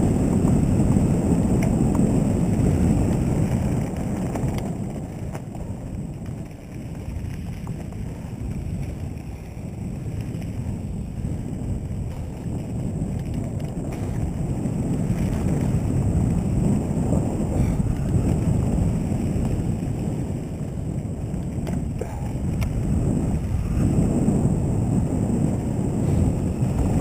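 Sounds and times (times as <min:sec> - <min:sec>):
bike tyres rumbling on dirt: 0:00.0 - 0:27.0
wind buffeting microphone: 0:00.0 - 0:27.0.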